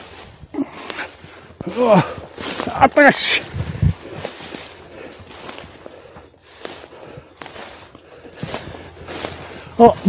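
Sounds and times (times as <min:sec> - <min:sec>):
footsteps crunching through dry grass: 0:00.0 - 0:10.0.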